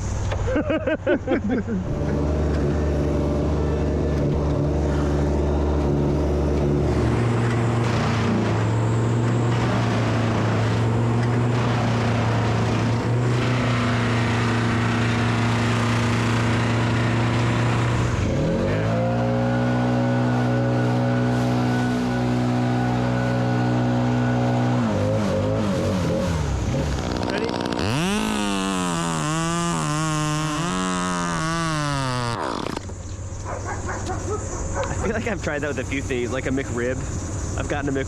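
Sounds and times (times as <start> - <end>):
large engine running under load: 1.6 - 33.4, 34.8 - 38.0.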